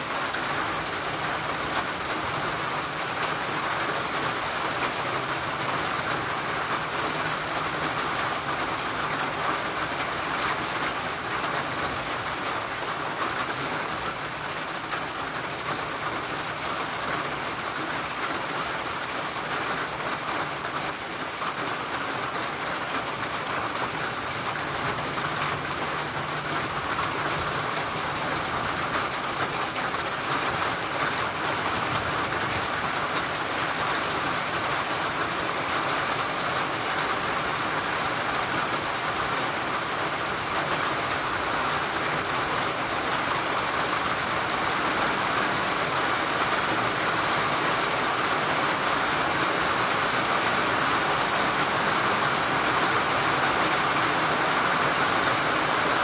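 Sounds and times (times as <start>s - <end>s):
rain drumming on a tin roof: 0.0s - 56.0s.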